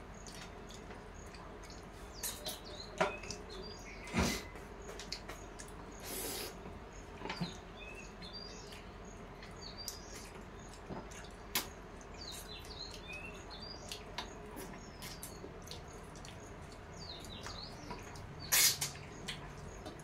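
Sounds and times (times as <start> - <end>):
chewing and fingers on plates: 0.0 - 20.0.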